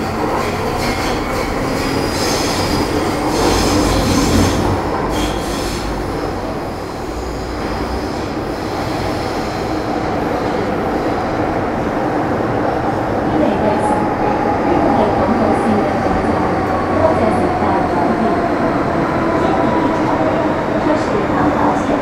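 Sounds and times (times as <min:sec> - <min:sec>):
metro car running rumble: 0:00.0 - 0:22.0.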